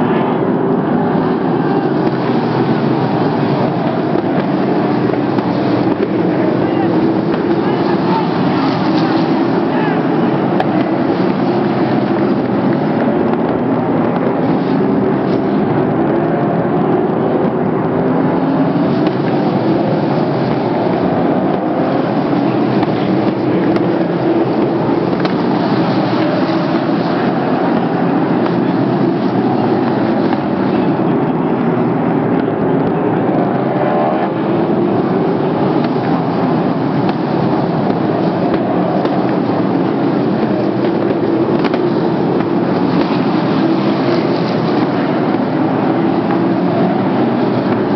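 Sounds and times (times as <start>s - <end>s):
racing car engines droning: 0.0s - 47.9s.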